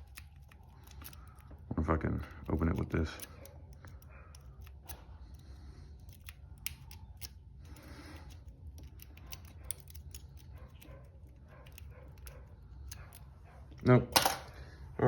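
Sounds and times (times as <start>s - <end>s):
metal clicks and scrapes on padlock: 0.0s - 14.4s.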